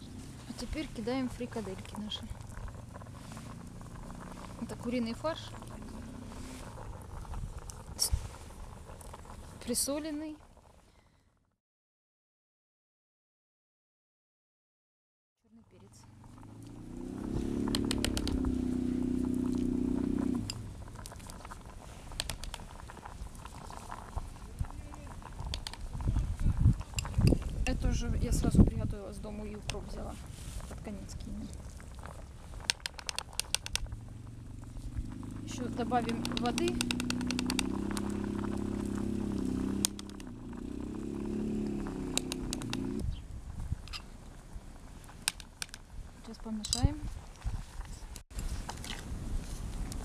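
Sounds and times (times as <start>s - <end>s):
campfire crackling and popping: 0.0s - 10.9s, 16.1s - 50.0s.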